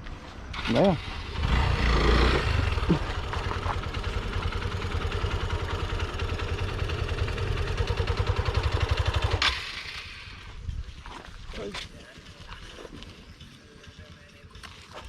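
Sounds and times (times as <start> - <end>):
motorcycle engine idling: 0.5 - 10.7, 11.9 - 15.0.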